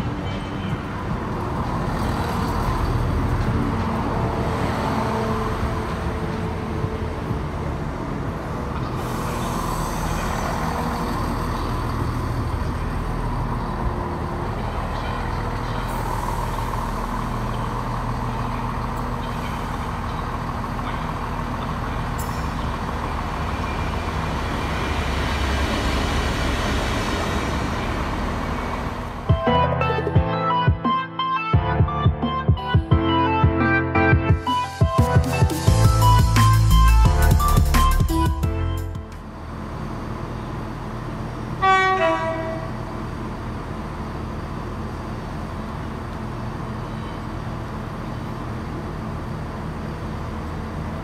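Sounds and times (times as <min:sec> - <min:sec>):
locomotive engine drone: 0:00.0 - 0:51.0.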